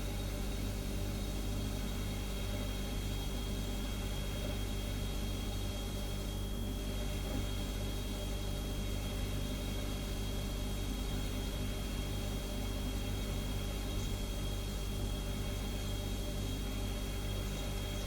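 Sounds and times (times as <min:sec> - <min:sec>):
refrigerator humming: 0:00.0 - 0:18.0.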